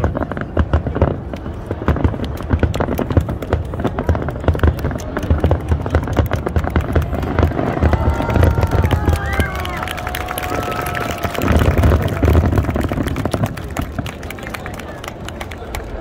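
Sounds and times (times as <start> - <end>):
fireworks low booms: 0.0 - 14.4
distant fireworks crackling pops: 0.0 - 16.0.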